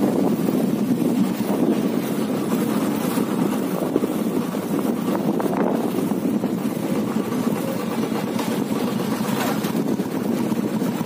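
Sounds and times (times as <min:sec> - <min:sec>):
small vehicle engine rumbling: 0:00.0 - 0:11.0.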